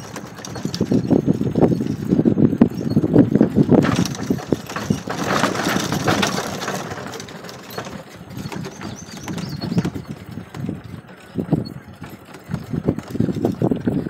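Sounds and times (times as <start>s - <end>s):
vehicle rattling over bumps: 0.0s - 14.0s.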